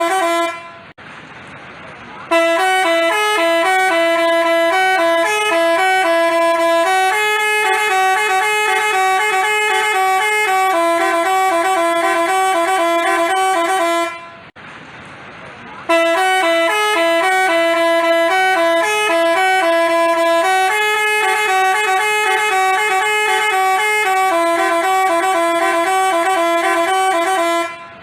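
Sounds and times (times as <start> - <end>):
held horn note: 0.0 - 0.9, 2.3 - 14.5, 15.9 - 28.0
musical bus horn melody: 0.0 - 1.0, 2.3 - 14.6, 15.9 - 28.0.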